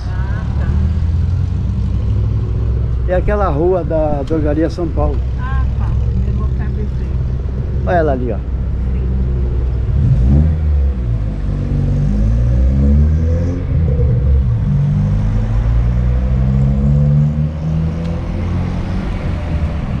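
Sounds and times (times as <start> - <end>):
car engines passing: 0.0 - 20.0.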